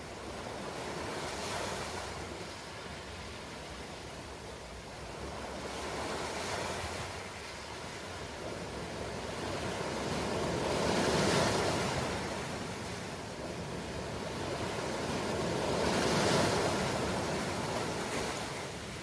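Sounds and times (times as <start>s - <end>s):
ocean waves washing ashore: 0.0s - 19.0s.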